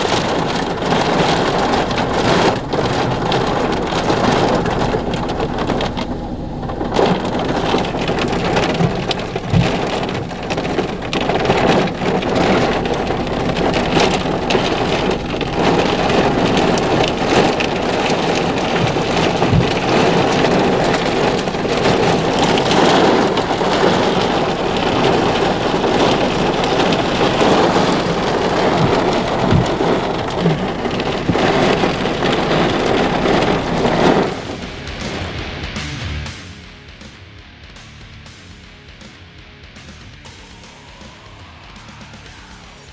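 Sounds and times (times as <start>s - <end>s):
heavy rain: 0.0s - 36.4s.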